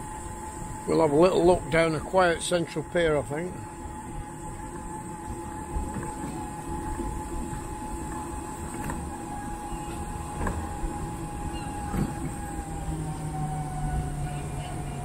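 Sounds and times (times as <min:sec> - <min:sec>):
faint steady whine: 0:00.0 - 0:15.0
traffic rumble: 0:00.0 - 0:15.0.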